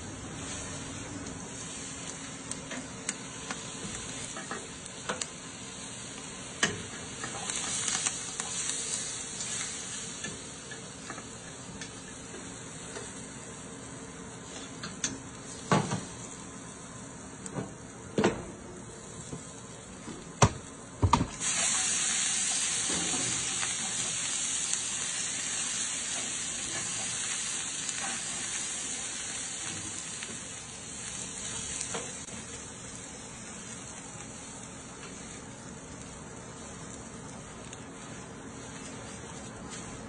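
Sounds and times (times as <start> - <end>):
water sizzling on hot drum: 0.0 - 40.0.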